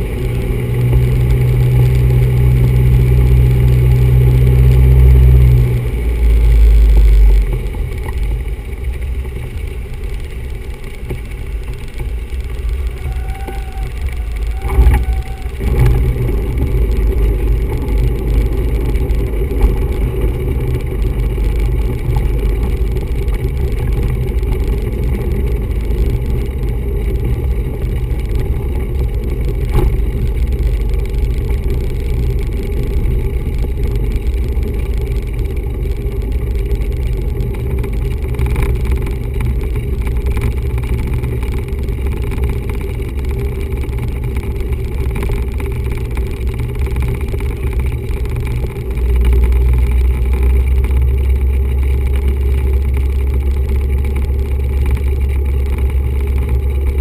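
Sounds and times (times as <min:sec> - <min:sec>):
aircraft piston engine rumbling: 0:05.6 - 0:57.0.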